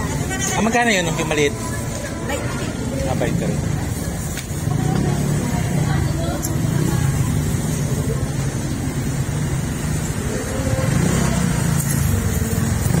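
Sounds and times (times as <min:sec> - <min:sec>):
street traffic rumble: 0:00.0 - 0:13.0
vehicle engines running close: 0:00.0 - 0:13.0.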